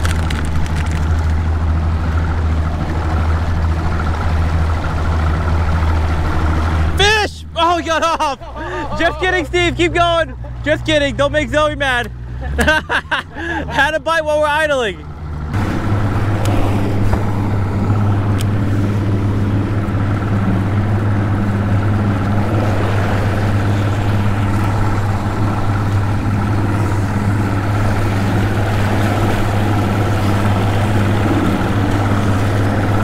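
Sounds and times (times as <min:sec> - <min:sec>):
outboard motor idling: 0:00.0 - 0:33.0.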